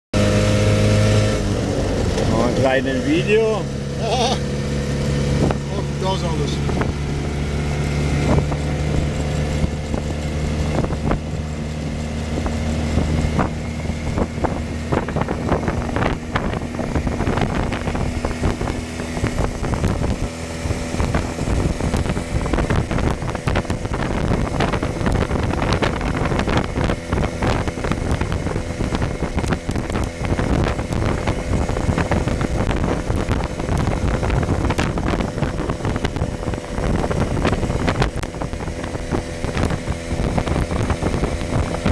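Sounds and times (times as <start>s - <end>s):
car engine running: 0.2s - 41.9s
wind and road noise: 0.2s - 41.9s.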